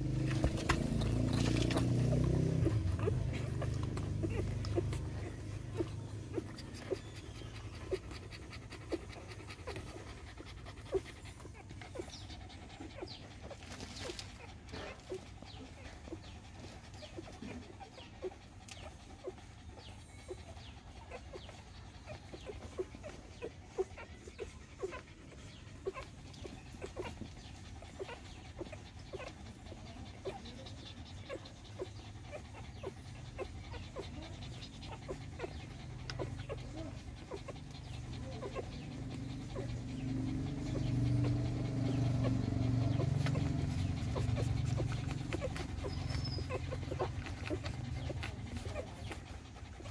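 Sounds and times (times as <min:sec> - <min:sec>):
puppies suckling: 0:00.0 - 0:49.9.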